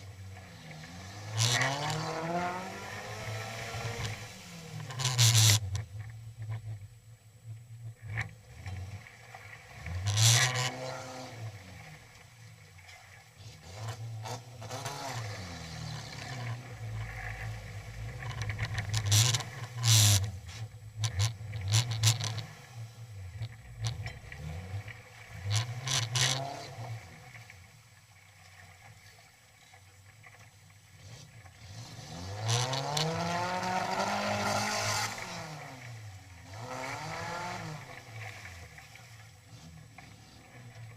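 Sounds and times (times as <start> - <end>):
engine revving: 0.0 - 6.1, 8.1 - 12.2, 13.4 - 27.5, 31.0 - 40.9.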